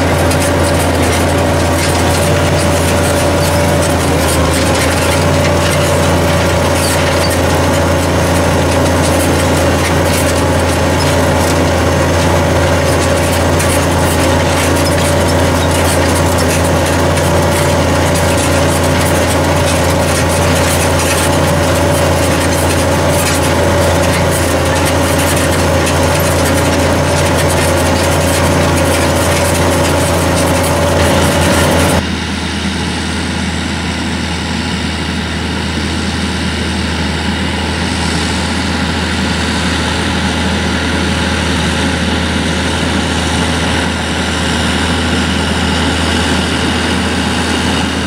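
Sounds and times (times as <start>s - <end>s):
constant whine: 0.0s - 48.0s
tractor diesel engine under load: 0.0s - 48.0s.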